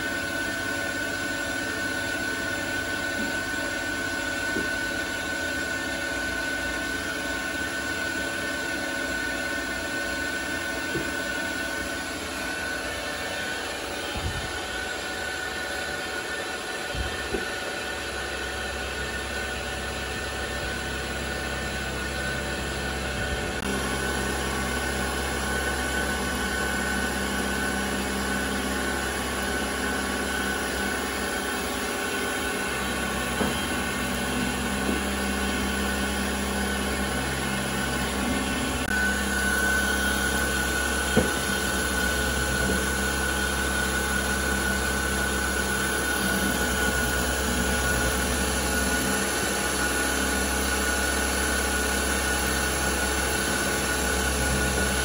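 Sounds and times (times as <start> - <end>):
milling machine cutting metal: 0.0 - 55.0.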